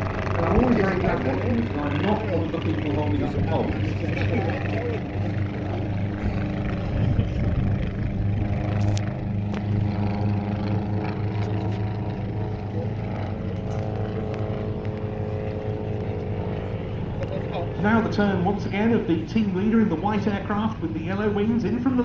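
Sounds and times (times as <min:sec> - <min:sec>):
light aircraft engine drone: 0:00.0 - 0:22.0.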